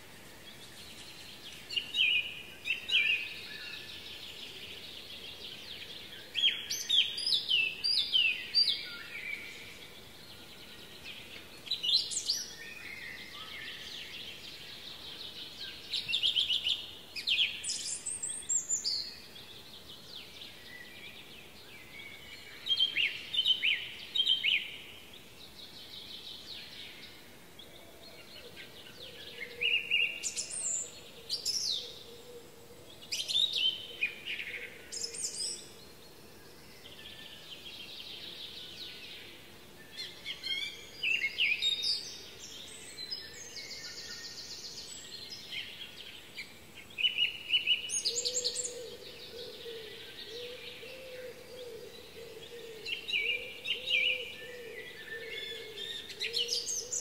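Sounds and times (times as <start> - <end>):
faint background hiss: 0.0 - 57.0
songbirds chirping and whistling: 0.0 - 57.0.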